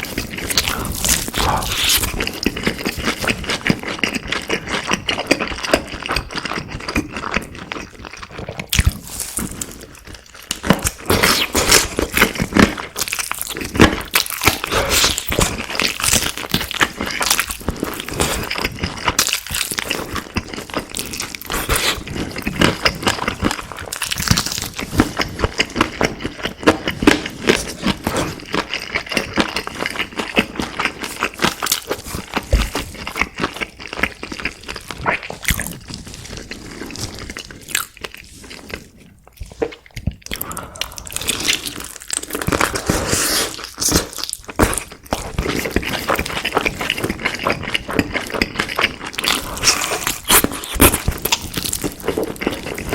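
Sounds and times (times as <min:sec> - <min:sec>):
crunching and chewing crispy food: 0:00.0 - 0:52.9.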